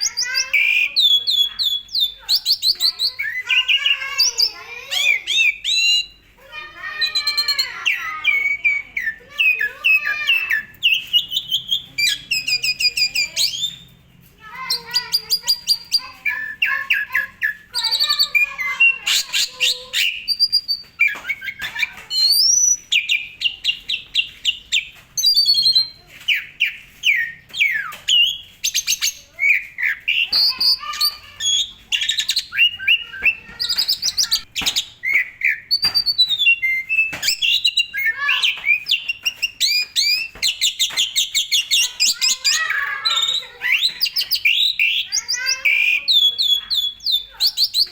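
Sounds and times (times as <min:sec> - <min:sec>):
bird singing varied phrases: 0:00.0 - 0:47.9.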